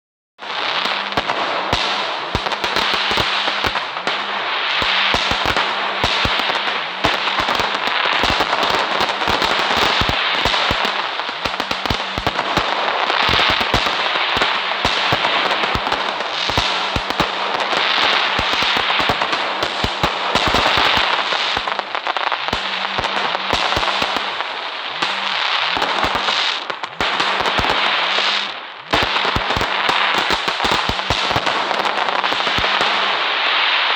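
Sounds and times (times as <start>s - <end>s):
fireworks cracking and popping: 0.4s - 33.9s
fireworks hiss: 0.5s - 33.9s.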